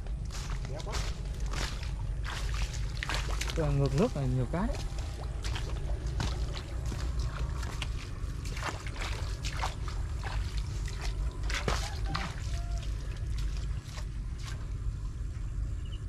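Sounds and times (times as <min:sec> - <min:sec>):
muddy water sloshing and trickling: 0:00.0 - 0:16.0
steady low rumble: 0:00.0 - 0:16.0
sharp splashes and clicks: 0:00.4 - 0:14.8.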